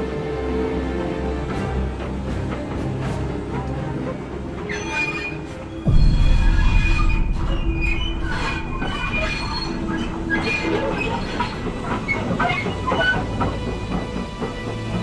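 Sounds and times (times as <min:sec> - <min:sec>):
railway carriage rumbling: 0:00.0 - 0:15.0
wheels squealing: 0:02.1 - 0:15.0.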